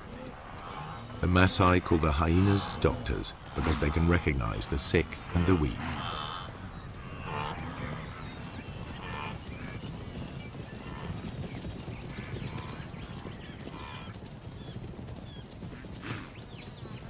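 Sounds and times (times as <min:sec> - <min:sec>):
rumble of many hooves: 0:00.0 - 0:17.0.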